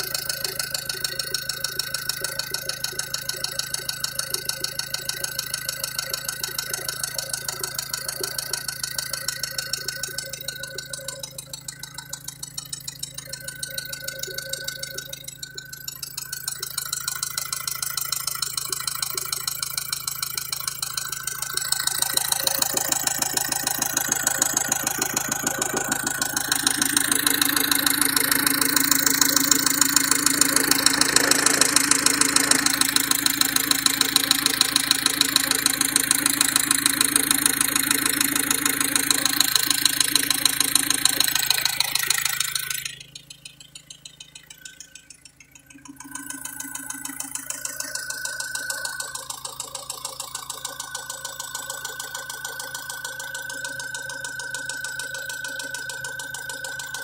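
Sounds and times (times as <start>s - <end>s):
diesel engine knocking: 0.0s - 57.0s.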